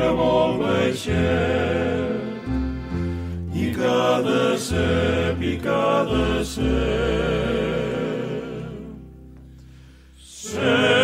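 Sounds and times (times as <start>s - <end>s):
vocal group singing in harmony: 0.0s - 9.3s, 10.2s - 11.0s
low musical accompaniment: 0.0s - 11.0s.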